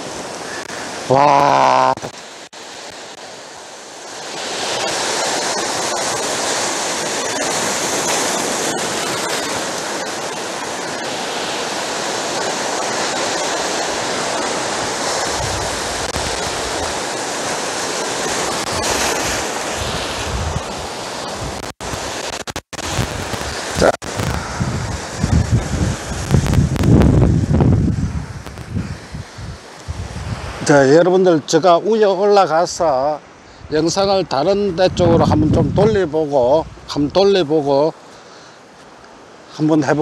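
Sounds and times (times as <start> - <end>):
rushing churning white water: 0.0 - 40.0
sea surf breaking over rocks: 0.0 - 40.0.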